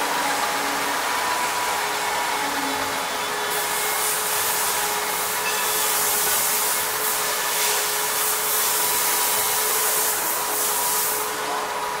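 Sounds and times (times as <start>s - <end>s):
machine whirring: 0.0s - 12.0s.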